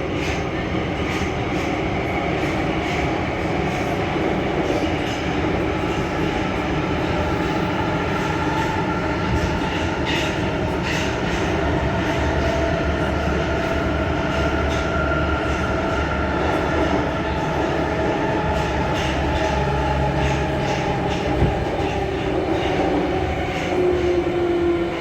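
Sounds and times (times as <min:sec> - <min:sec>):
train rumble with whine: 0:00.0 - 0:25.0
train wheels clattering: 0:02.4 - 0:25.0.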